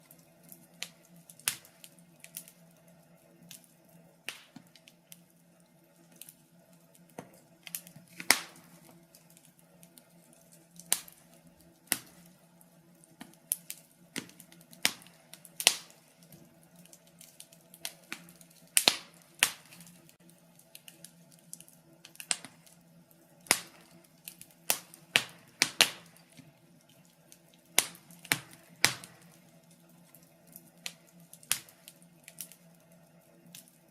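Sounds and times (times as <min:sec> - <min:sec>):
faint steady hum: 0:00.0 - 0:33.9
wood fire crackling and popping: 0:00.0 - 0:33.9.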